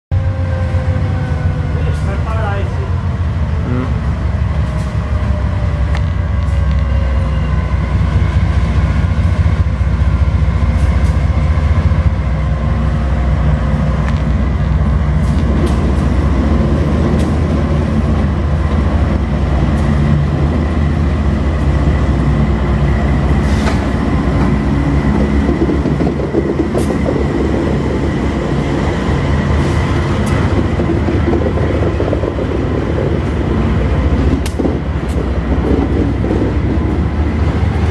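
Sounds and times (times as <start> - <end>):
diesel locomotive engines droning: 0.1 - 37.9.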